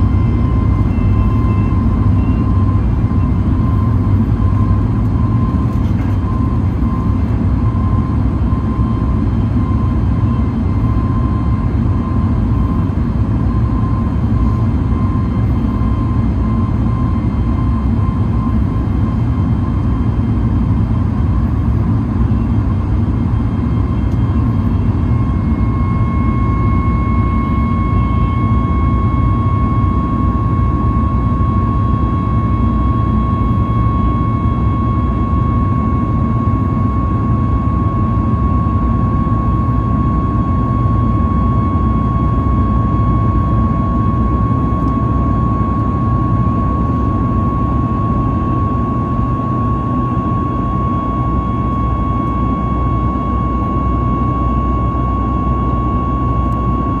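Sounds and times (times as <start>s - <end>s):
high engine whine: 0.0s - 57.0s
jet engine roar: 0.0s - 57.0s.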